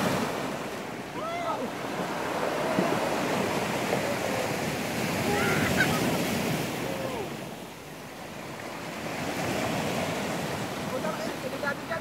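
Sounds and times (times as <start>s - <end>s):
waves breaking on stones: 0.0s - 12.0s.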